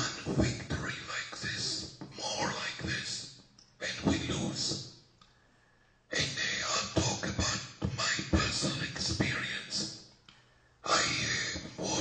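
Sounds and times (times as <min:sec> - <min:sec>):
harsh distorted voice talking: 0:00.0 - 0:04.8, 0:06.1 - 0:09.9, 0:10.8 - 0:12.0.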